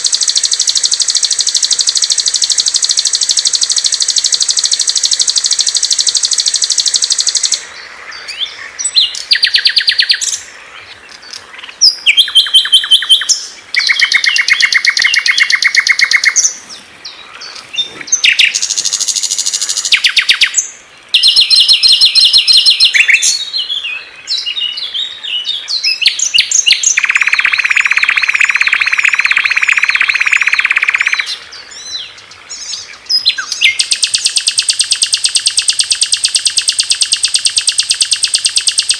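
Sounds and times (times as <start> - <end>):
songbirds trilling and chattering: 0.0 - 38.9.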